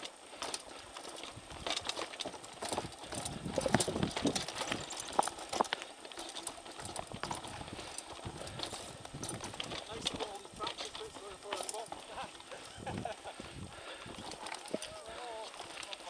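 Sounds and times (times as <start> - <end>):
bikes clattering over rocks: 0.0 - 16.0.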